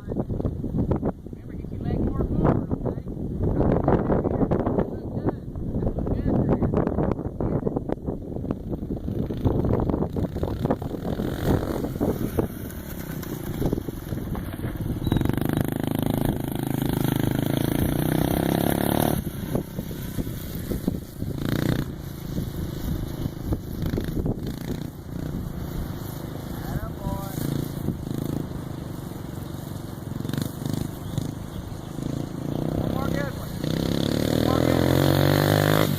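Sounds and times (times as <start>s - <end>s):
dirt bike engine running: 6.0s - 35.9s.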